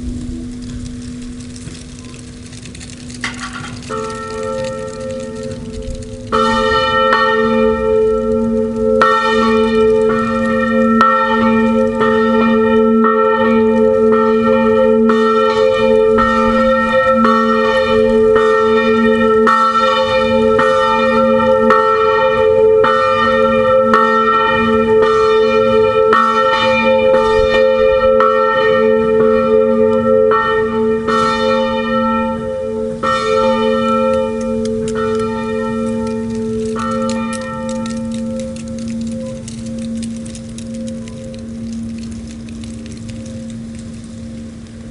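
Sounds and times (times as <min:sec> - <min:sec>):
swinging church bell ringing: 0:03.2 - 0:44.6.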